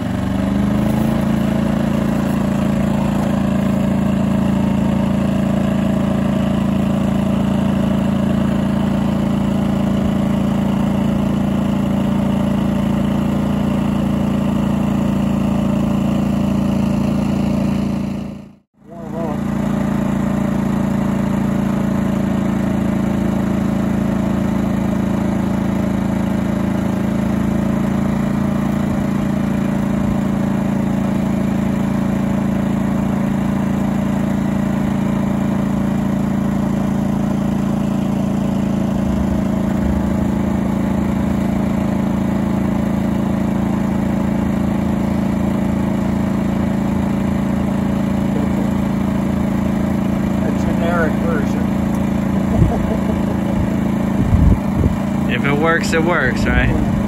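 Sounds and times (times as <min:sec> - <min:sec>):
generator engine hum: 0:00.0 - 0:57.0.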